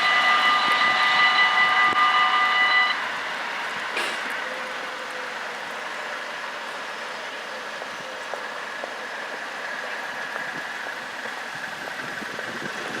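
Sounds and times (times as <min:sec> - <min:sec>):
train rolling over rails: 0:00.0 - 0:13.0.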